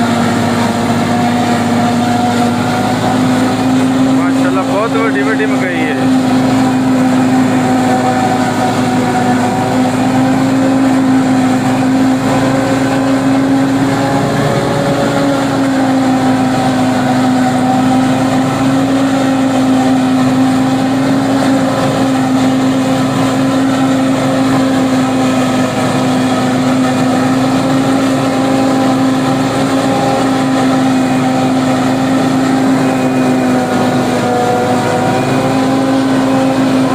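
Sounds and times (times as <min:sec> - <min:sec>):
forage harvester droning: 0:00.0 - 0:36.9.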